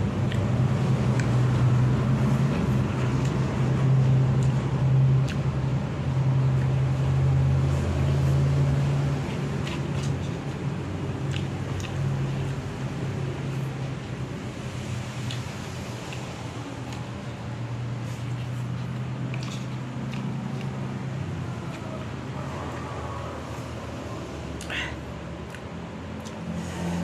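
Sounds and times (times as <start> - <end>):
low mechanical hum: 0.0 - 27.0
eating noodles: 0.2 - 27.0.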